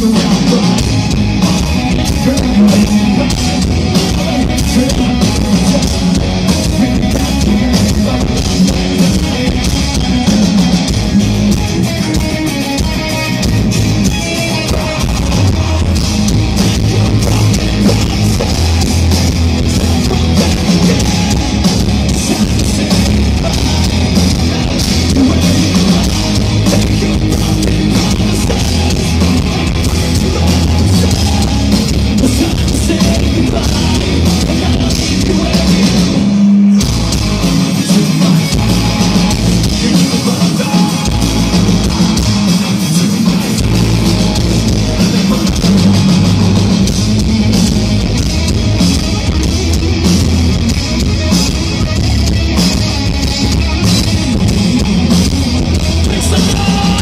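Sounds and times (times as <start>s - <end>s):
bass guitar: 0.0s - 57.0s
distorted electric guitar: 0.0s - 57.0s
drum kit: 0.0s - 57.0s.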